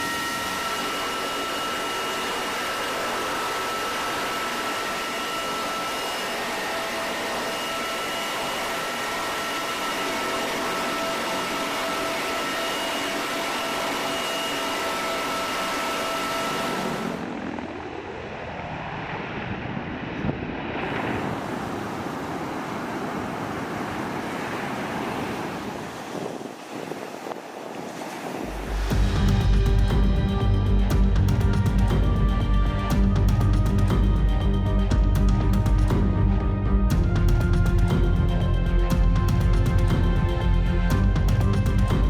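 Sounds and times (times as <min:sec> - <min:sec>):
jet engines rushing and whining: 0:00.0 - 0:42.0.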